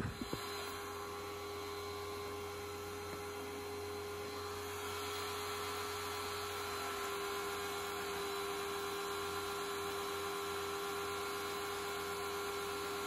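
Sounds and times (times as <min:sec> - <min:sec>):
pressure washer humming: 0:00.0 - 0:13.0.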